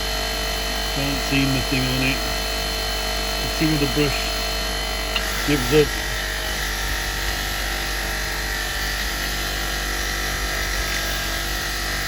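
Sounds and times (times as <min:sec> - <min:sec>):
powered wire brush scrubbing metal: 0:00.0 - 0:12.0.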